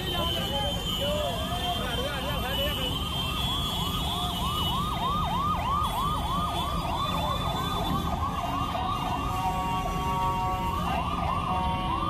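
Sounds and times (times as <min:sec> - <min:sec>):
emergency siren yelping: 0:00.0 - 0:12.0
road traffic rumble: 0:00.0 - 0:12.0.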